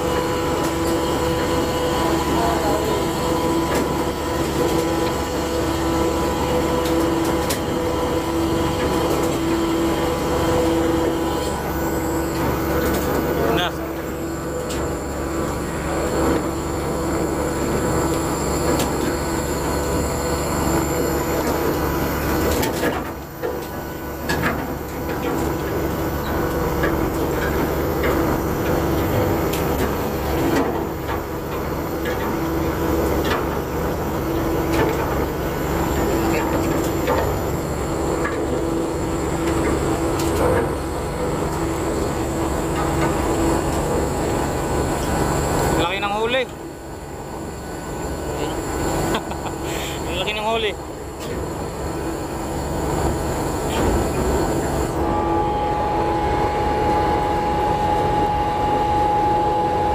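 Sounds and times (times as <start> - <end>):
anchor windlass drone: 0.0 - 59.9
high whine: 0.0 - 59.9
ship engine: 0.0 - 59.9.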